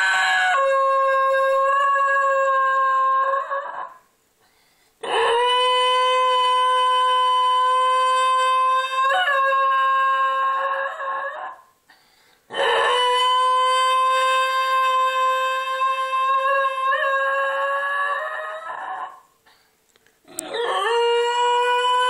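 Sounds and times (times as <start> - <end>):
dog howling: 0.0 - 4.0, 5.0 - 11.7, 12.5 - 19.3, 20.3 - 22.0.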